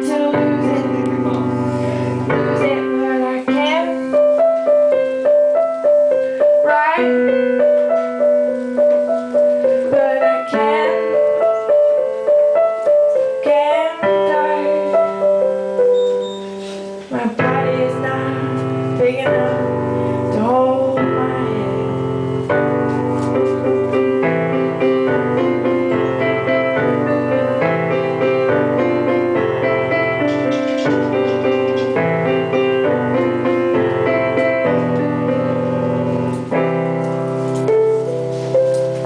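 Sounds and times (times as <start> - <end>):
piano playing: 0.0 - 39.0.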